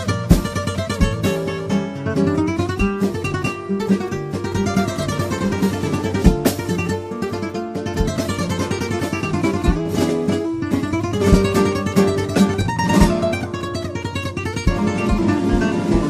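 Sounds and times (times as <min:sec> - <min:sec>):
flamenco acoustic guitar: 0:00.0 - 0:16.0.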